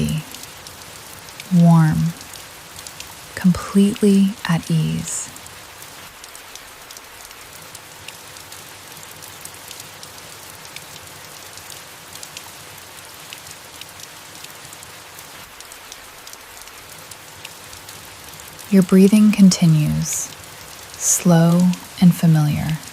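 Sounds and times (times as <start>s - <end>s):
rain falling on leaves: 0.0s - 22.9s.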